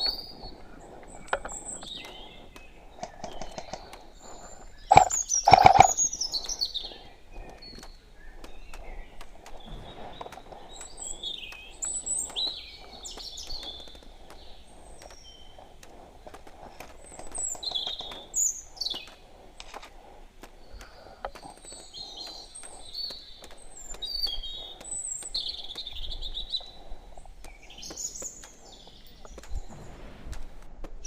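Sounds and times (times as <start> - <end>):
faint clicks: 0.0 - 31.0
sharp clacks: 0.0 - 31.0
small birds chirping: 0.0 - 31.0.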